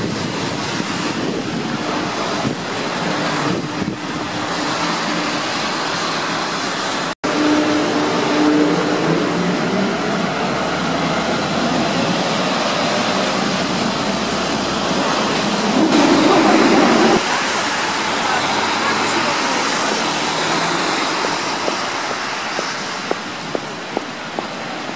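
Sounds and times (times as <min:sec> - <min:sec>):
rushing noise: 0:00.0 - 0:24.9
tram wheels on rails: 0:00.0 - 0:24.9.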